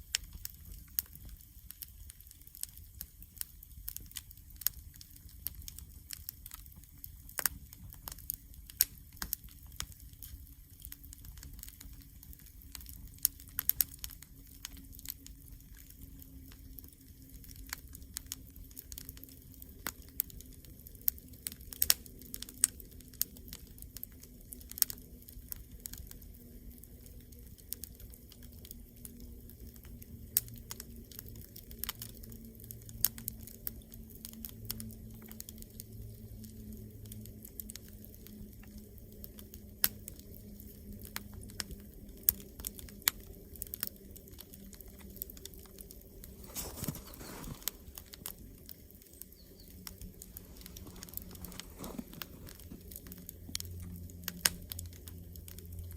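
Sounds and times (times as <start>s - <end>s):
campfire crackling and popping: 0.0s - 55.9s
faint low hum: 0.0s - 55.9s.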